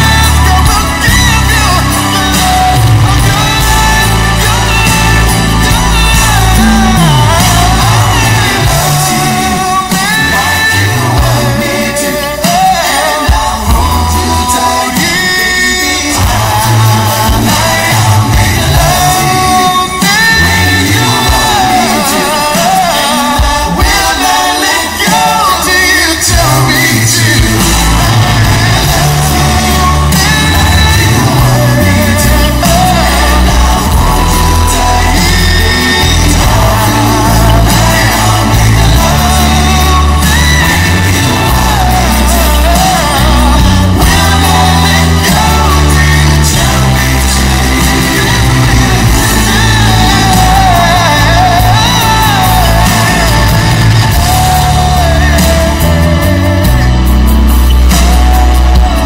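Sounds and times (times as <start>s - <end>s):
heavy bass line: 0.0s - 59.0s
male vocal group singing: 0.0s - 59.0s.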